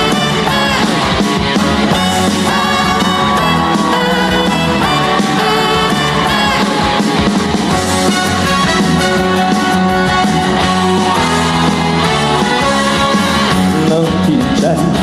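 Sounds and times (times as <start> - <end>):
upbeat trot song: 0.0 - 15.0.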